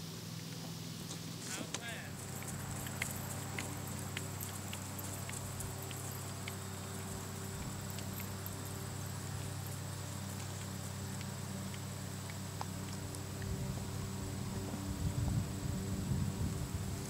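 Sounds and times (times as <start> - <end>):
hoofbeats on grass: 0.0 - 17.0
steady low hum: 0.0 - 17.0.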